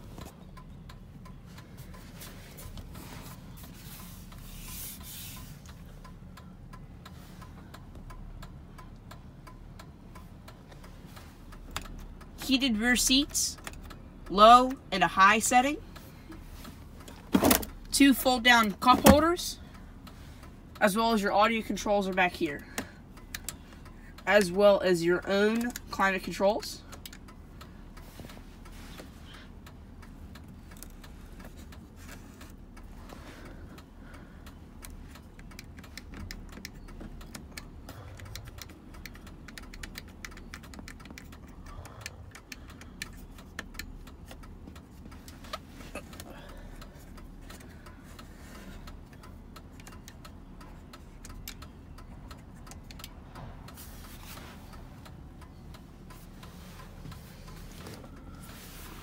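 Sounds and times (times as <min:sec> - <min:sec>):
low cabin hum: 0:00.0 - 0:59.0.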